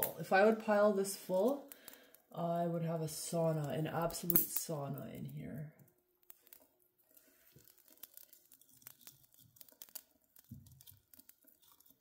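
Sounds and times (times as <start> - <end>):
small fire crackling: 0.0 - 12.0.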